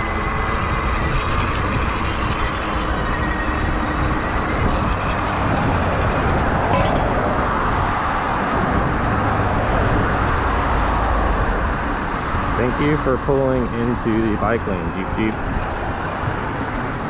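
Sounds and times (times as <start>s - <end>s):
tires on road: 0.0s - 17.0s
wind rushing over microphone: 0.0s - 17.0s.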